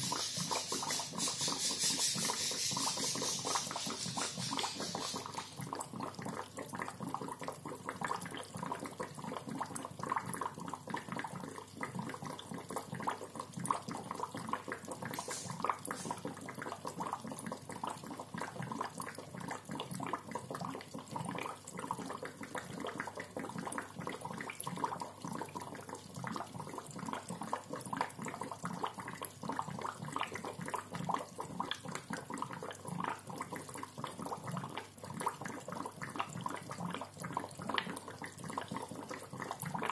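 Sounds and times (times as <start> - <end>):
aquarium bubbler gurgling: 0.0 - 39.9.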